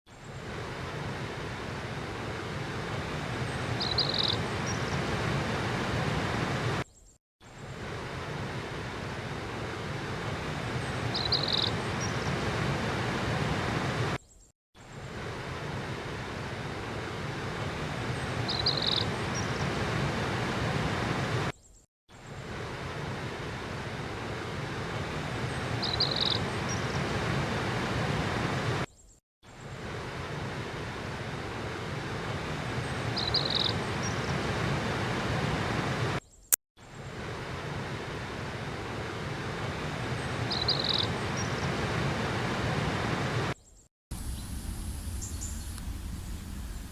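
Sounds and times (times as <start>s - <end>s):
rushing river water: 0.3s - 6.8s, 7.6s - 14.2s, 15.0s - 21.5s, 22.4s - 28.9s, 29.7s - 36.2s, 37.0s - 46.6s.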